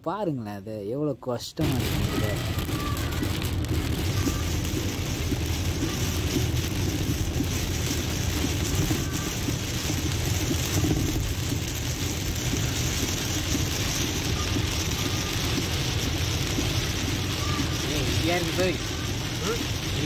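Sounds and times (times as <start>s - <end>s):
road and engine rumble: 0.0s - 20.0s
rain hissing on windscreen: 1.6s - 20.0s.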